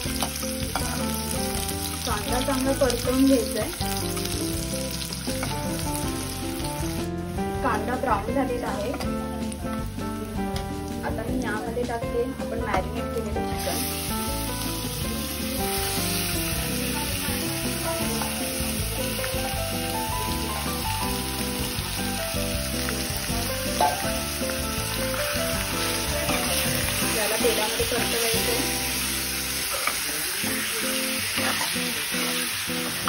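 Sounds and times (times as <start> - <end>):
chicken sizzling in hot oil: 0.0 - 12.5, 13.2 - 33.0
background music: 0.0 - 33.0.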